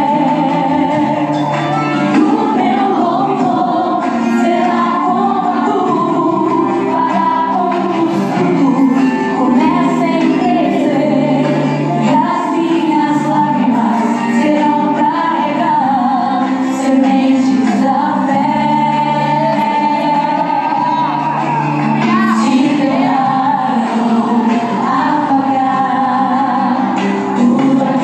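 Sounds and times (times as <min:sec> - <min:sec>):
backing music: 0:00.0 - 0:28.0
gospel choir singing: 0:00.0 - 0:28.0.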